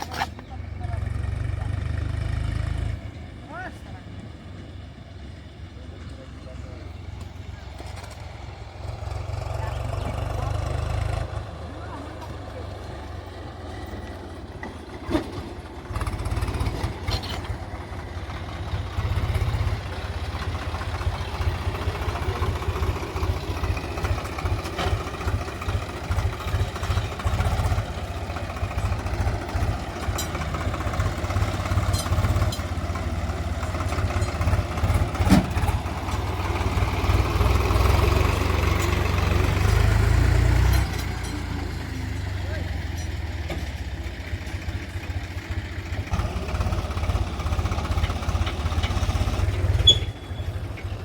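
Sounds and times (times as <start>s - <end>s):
heavy machine engine running: 0.0s - 51.0s.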